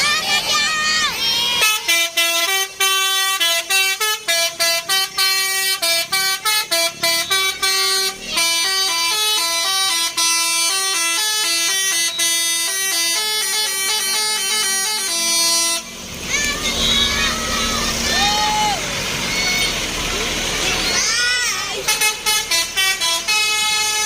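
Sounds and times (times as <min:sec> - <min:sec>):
multi-tone bus air horn melody: 0:00.1 - 0:24.0.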